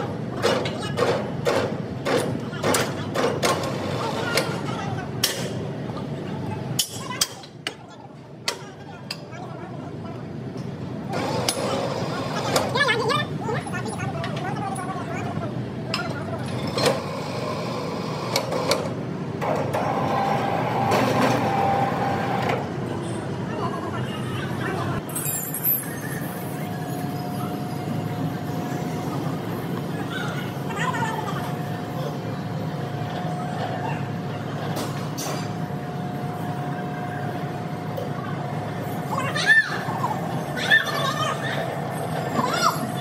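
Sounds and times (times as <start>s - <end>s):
constant hum: 0.0s - 43.0s
steady mechanical noise: 0.0s - 43.0s.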